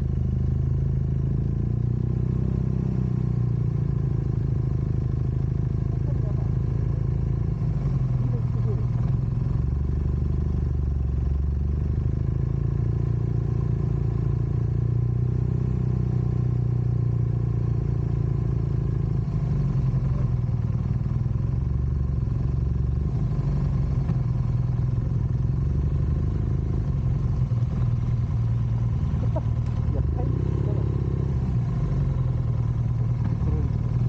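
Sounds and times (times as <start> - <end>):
vehicle engine droning: 0.0 - 34.0.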